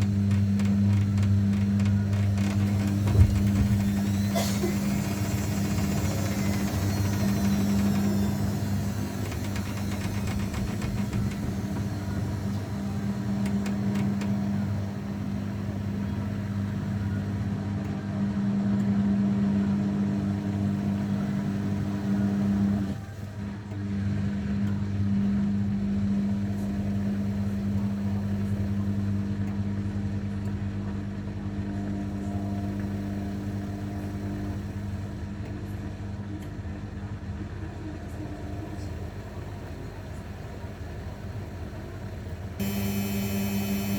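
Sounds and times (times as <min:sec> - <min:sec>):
washing machine motor hum: 0:00.0 - 0:43.9.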